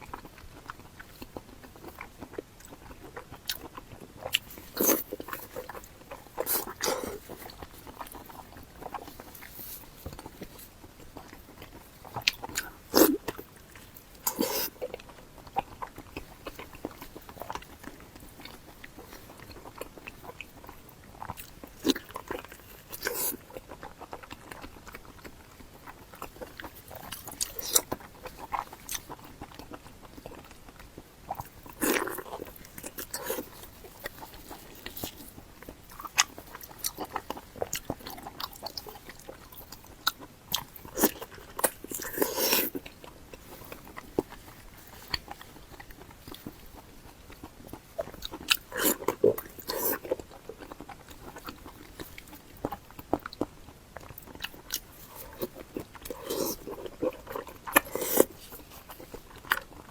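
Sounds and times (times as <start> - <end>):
chewing with crunches: 0.0 - 59.9.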